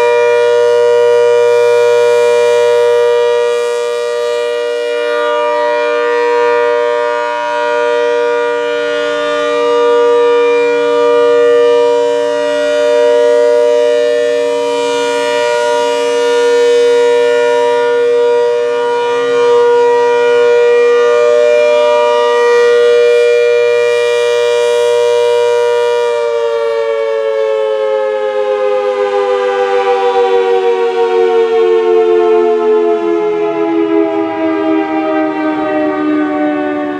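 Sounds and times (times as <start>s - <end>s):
warning siren two-note chord: 0.0s - 36.9s.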